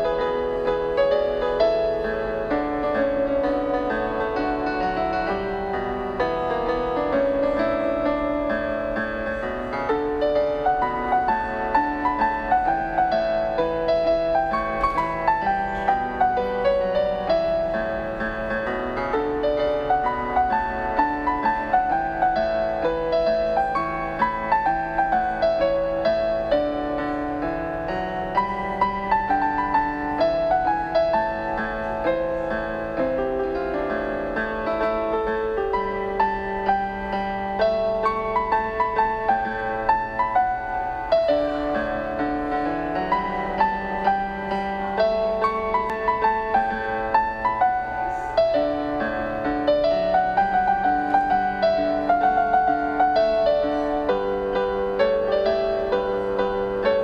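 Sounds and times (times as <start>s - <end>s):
piano melody over chords: 0.0s - 57.0s.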